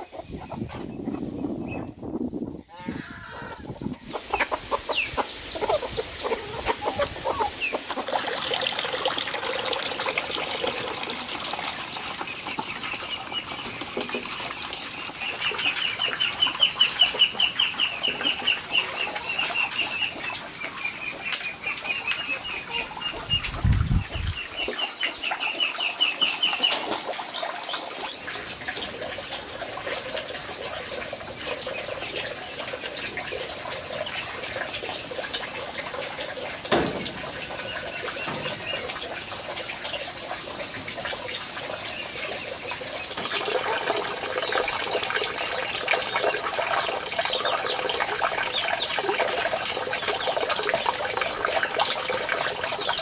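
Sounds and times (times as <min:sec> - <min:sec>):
flowing water: 0:02.7 - 0:53.0.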